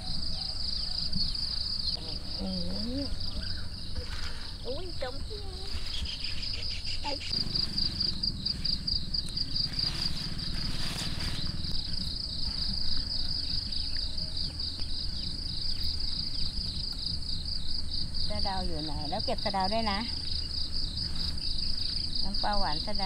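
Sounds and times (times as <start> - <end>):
rustling hiss: 0.0 - 14.0, 14.6 - 23.0
cricket-like insect trilling: 0.0 - 23.0.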